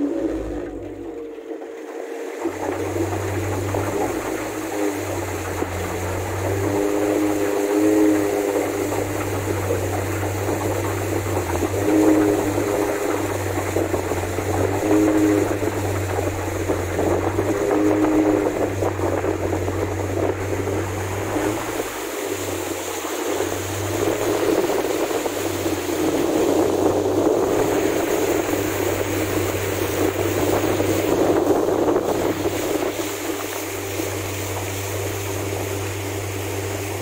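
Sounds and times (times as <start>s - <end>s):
electric outboard motor hum: 0.0s - 37.0s
water splashing along hull: 0.0s - 37.0s
wind buffeting microphone: 2.5s - 37.0s.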